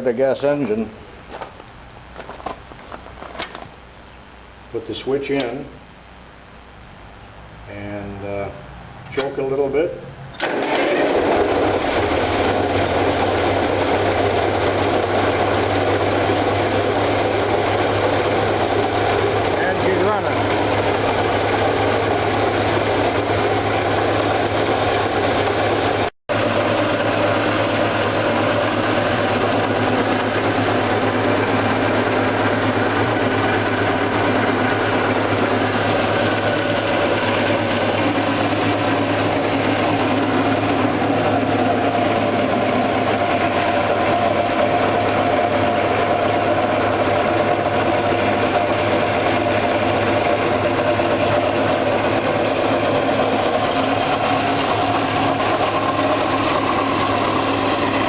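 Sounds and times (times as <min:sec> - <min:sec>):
gasoline engine running: 0:10.4 - 0:58.0.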